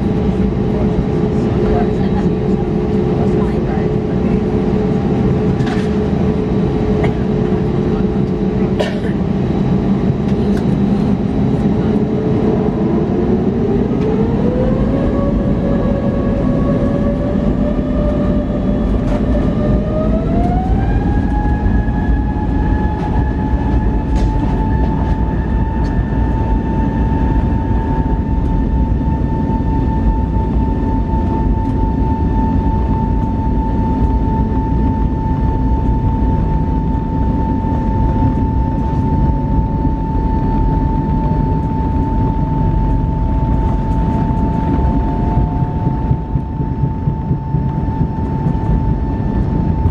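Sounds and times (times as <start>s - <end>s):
heavy rumble of takeoff roll: 0.0s - 49.9s
jet engines spooling up: 9.3s - 49.9s.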